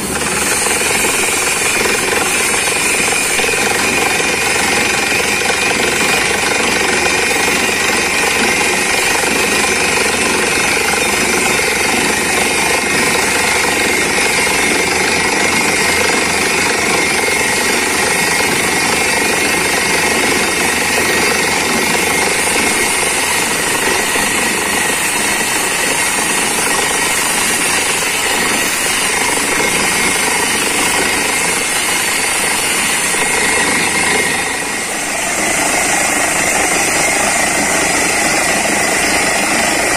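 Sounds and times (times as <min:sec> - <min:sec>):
drill rig percussive hammering: 0:00.0 - 0:39.9
engine and compressor drone: 0:00.0 - 0:39.9.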